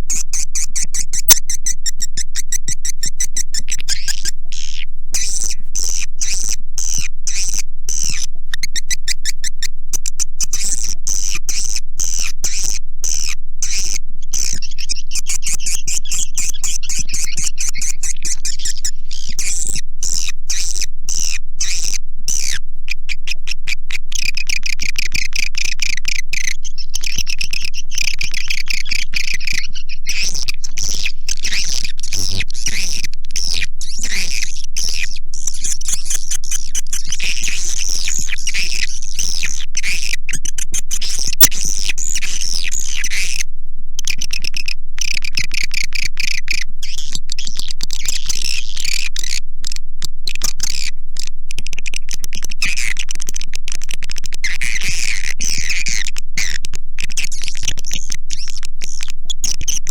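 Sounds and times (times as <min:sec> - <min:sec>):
swiftlets chirping and twittering: 0:00.1 - 0:22.6, 0:24.2 - 0:43.4, 0:44.0 - 0:53.4.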